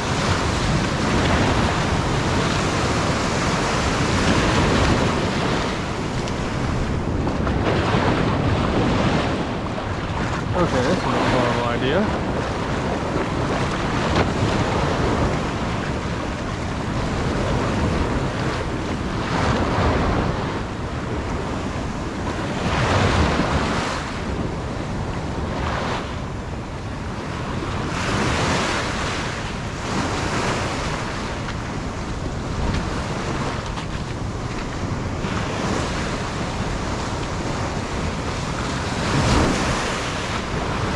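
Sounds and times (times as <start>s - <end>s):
ocean surf washing ashore: 0.0s - 40.9s
wind on microphone: 0.0s - 40.9s.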